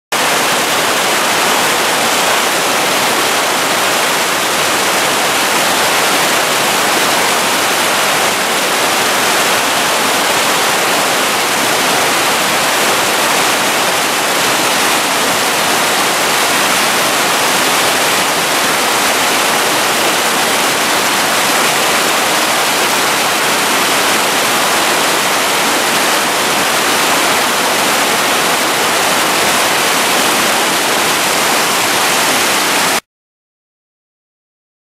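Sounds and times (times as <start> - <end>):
water rushing over rocks: 0.1 - 33.0.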